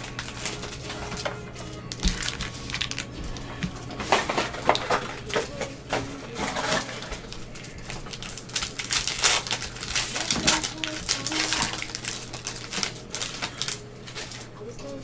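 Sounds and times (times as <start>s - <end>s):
foil packs crinkling: 0.0s - 15.0s.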